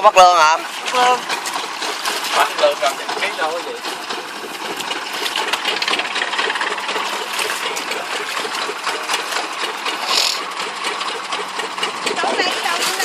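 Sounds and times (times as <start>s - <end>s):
combine harvester running: 0.0s - 13.0s
rapid metallic clatter: 0.4s - 13.0s.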